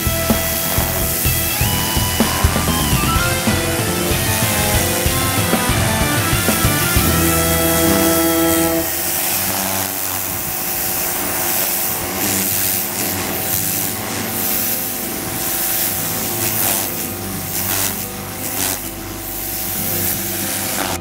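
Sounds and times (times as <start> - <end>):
pressure washer spraying wood: 0.0 - 21.0.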